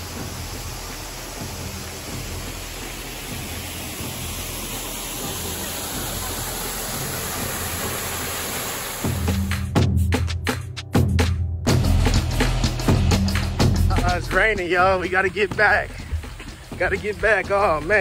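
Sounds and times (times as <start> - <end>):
rain falling: 0.0 - 9.6, 12.2 - 18.0
waterfall rushing: 0.0 - 9.7, 12.1 - 18.0.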